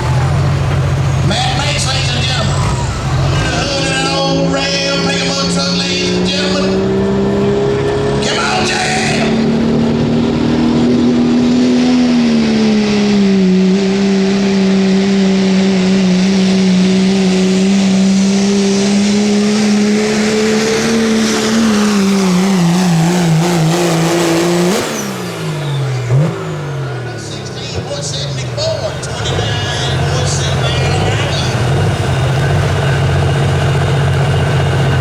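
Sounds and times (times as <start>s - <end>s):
diesel truck engine at full throttle: 0.0s - 35.0s.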